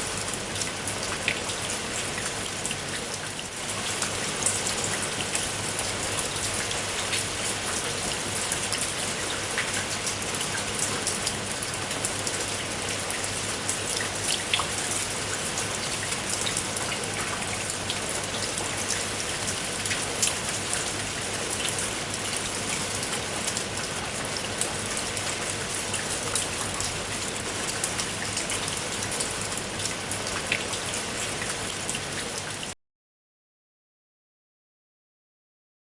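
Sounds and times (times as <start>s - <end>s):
rain falling: 0.0s - 32.8s.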